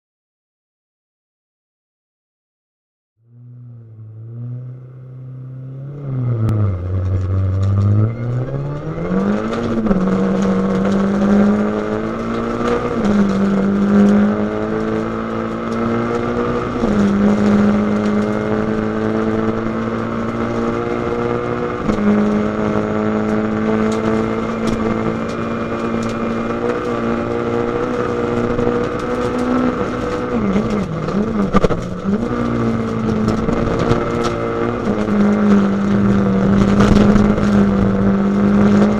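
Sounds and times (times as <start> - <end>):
rally car engine accelerating: 3.2 - 38.9.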